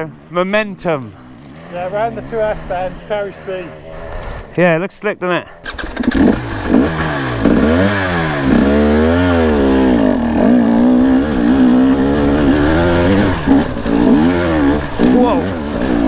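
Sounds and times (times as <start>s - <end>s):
dirt bike engine revving: 0.0s - 4.8s, 5.4s - 16.0s.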